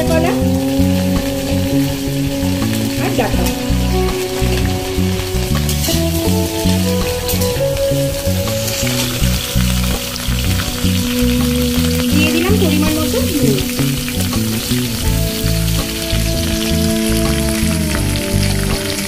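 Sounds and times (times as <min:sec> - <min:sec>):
background music: 0:00.0 - 0:19.0
vegetables sizzling in hot oil: 0:00.0 - 0:19.0.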